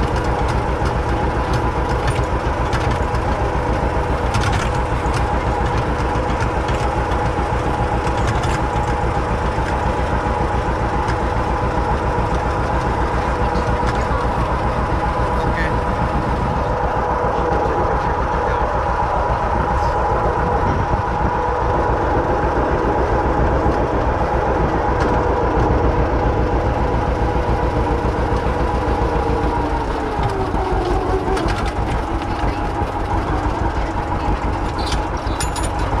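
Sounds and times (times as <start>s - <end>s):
tractor engine putter: 0.0s - 20.8s, 23.0s - 36.0s.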